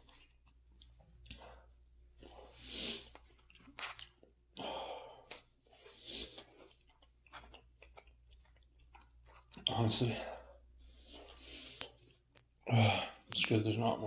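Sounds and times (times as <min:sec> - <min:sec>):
person chewing food: 0:00.0 - 0:13.5.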